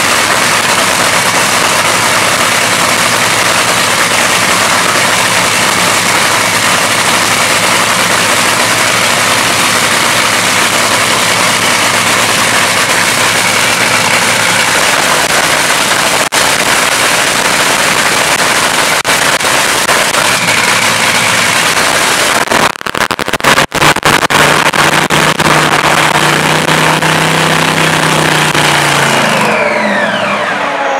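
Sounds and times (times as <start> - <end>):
dragster engine running: 0.0 - 30.9.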